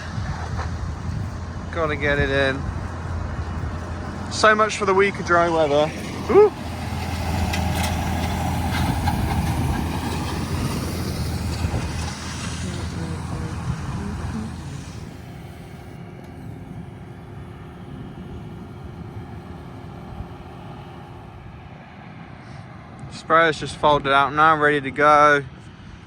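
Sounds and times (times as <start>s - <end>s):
tractor engine humming: 0.0s - 26.0s.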